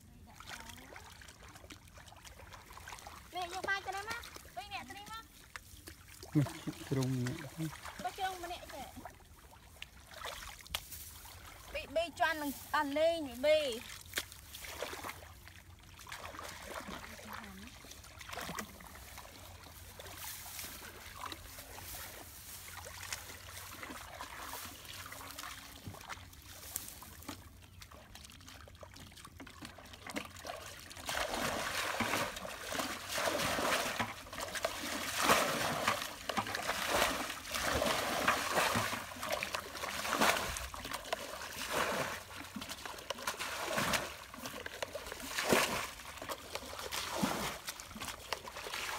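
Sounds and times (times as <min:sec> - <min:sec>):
muddy water splashing: 0:00.0 - 0:48.9
water dribbling: 0:00.0 - 0:48.9.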